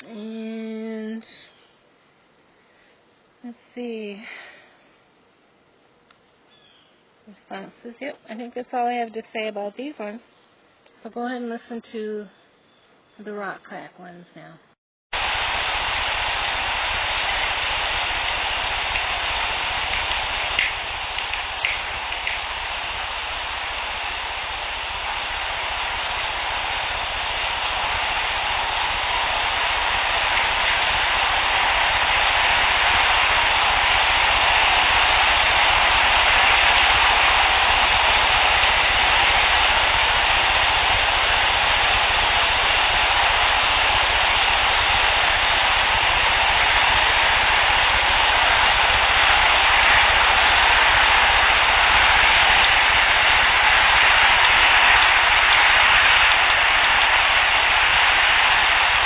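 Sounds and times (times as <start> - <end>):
steady hiss: 0.0 - 12.1, 15.1 - 59.0.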